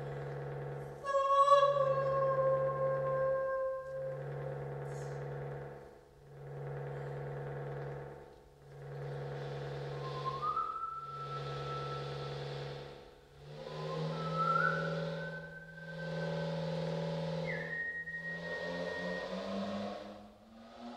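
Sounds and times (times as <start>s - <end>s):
low electronic drone: 0.0s - 20.9s.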